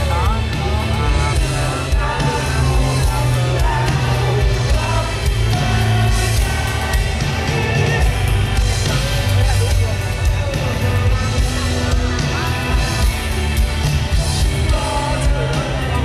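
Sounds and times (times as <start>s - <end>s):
live rock band playing: 0.0s - 16.0s
man singing lead: 0.0s - 16.0s.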